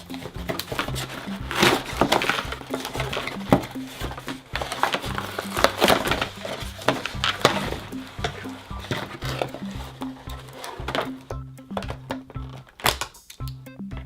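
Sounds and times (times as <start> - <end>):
toy packaging crinkling: 0.0 - 13.4
background music: 0.0 - 14.0.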